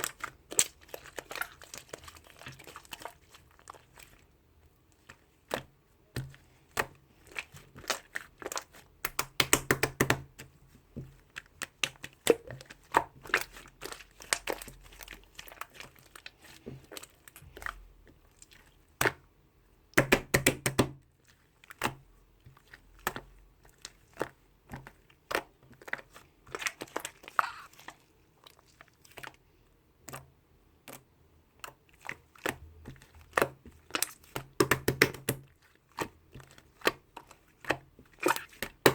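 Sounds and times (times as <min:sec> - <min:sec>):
crinkling and crunching: 0:00.0 - 0:04.3, 0:04.9 - 0:09.2, 0:11.0 - 0:18.8, 0:21.2 - 0:29.5, 0:30.9 - 0:34.6, 0:35.2 - 0:38.9.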